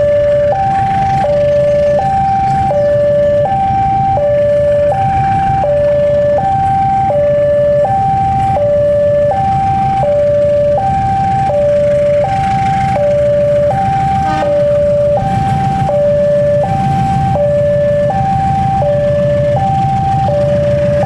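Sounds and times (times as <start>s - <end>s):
diesel locomotive engine running: 0.0s - 21.0s
two-tone electronic alarm: 0.0s - 21.0s.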